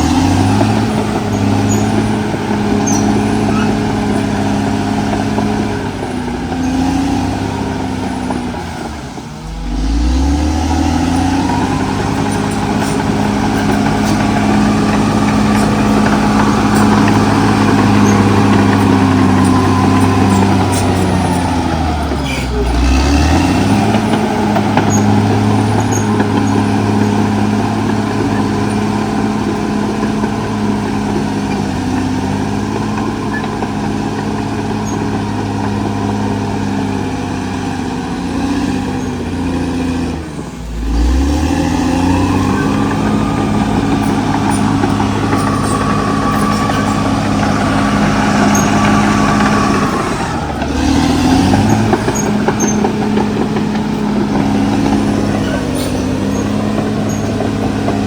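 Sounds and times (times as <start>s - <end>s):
bulldozer diesel engine running: 0.0s - 58.0s
high engine whine: 0.0s - 58.0s.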